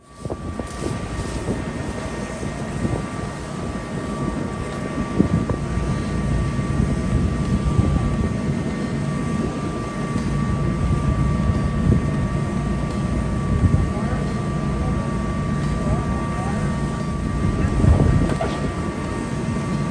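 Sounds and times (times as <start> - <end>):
engine rumbling: 0.0 - 19.9
thin steady whine: 0.0 - 19.9.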